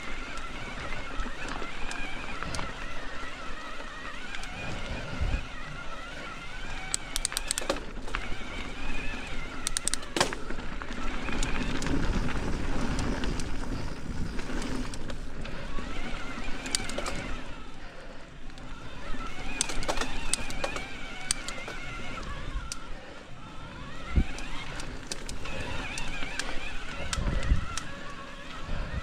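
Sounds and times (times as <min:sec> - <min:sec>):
bike clicks and rattles: 0:00.0 - 0:29.0
bike tyres rumbling on dirt: 0:00.0 - 0:29.0
wind: 0:00.0 - 0:29.0.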